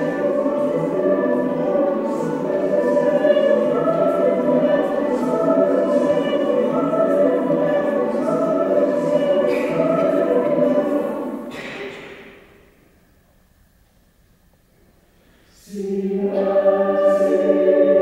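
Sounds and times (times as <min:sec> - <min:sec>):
mixed choir singing: 0:00.0 - 0:12.0, 0:15.6 - 0:18.0
sibilant hiss from singers: 0:00.0 - 0:18.0.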